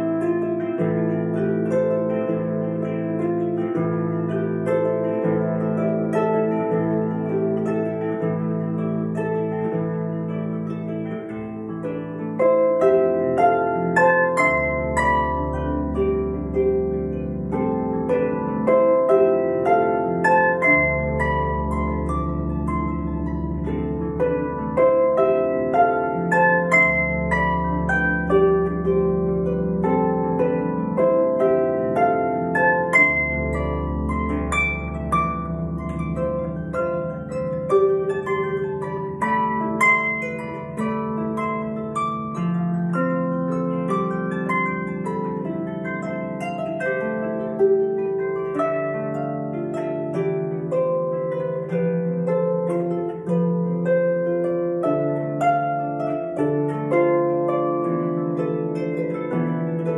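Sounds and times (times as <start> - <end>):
harp plucked notes: 0.0 - 59.9.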